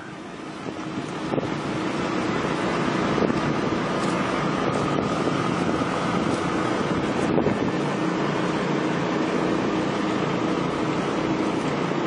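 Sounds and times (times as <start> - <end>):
road traffic rushing: 0.0 - 12.0.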